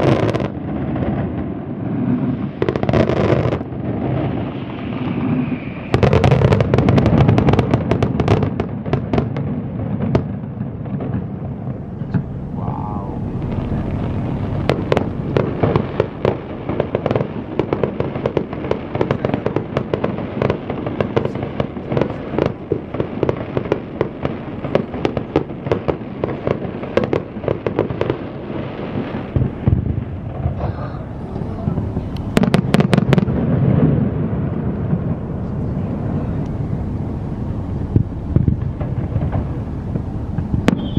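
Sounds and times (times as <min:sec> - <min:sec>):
fireworks cracks and bangs: 0:00.0 - 0:40.9
rumble of fireworks launches: 0:00.0 - 0:40.9.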